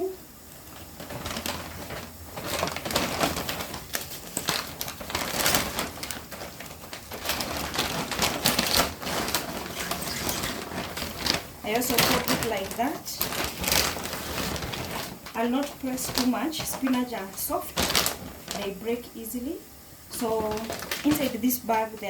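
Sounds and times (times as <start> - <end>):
shopping bag rustling: 0.0 - 19.3, 20.1 - 22.0.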